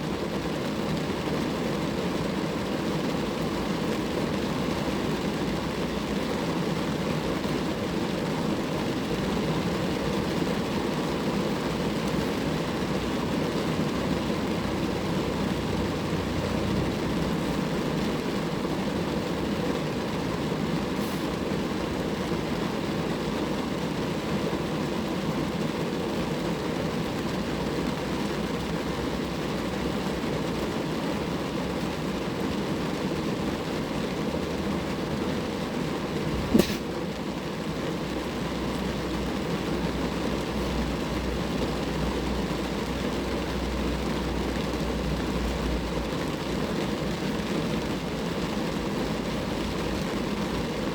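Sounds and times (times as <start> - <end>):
rain falling on a car: 0.0 - 50.9.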